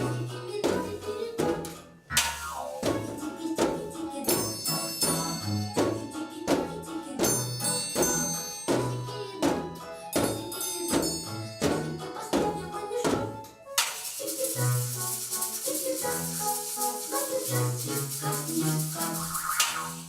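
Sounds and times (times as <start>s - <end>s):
percussion instruments playing: 0.0s - 20.0s.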